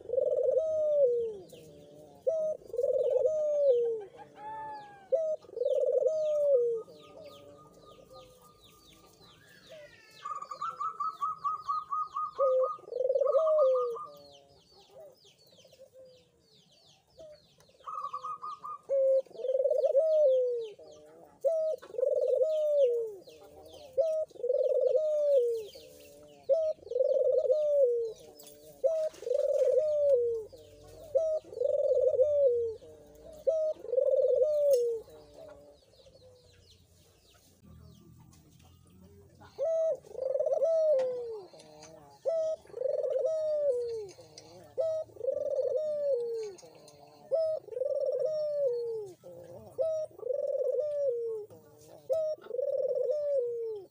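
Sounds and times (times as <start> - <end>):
dove cooing: 0.0 - 36.7, 38.7 - 53.9
small birds chirping: 0.0 - 53.9.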